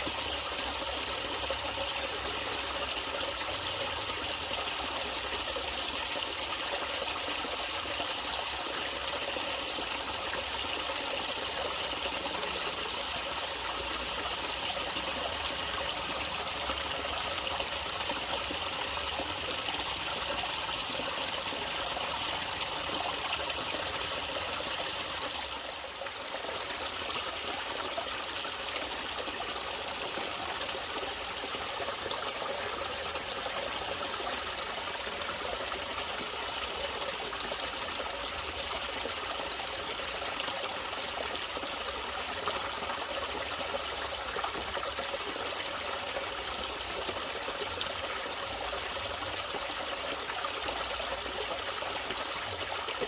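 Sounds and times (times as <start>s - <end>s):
stream water trickling: 0.0s - 53.0s.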